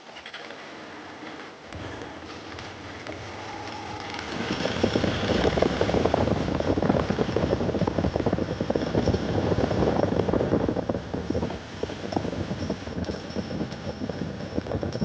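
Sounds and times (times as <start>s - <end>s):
motorcycle engine running: 1.8s - 15.0s.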